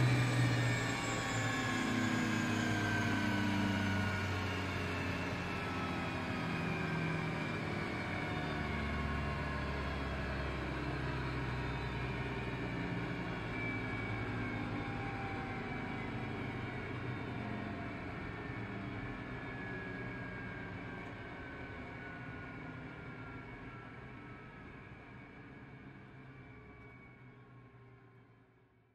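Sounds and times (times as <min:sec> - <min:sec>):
jet engine winding down: 0:00.0 - 0:27.2.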